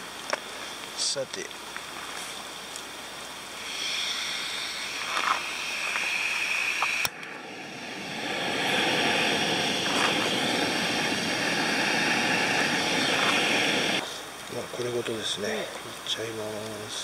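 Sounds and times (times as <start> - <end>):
gas stove burner hissing: 2.2 - 17.0.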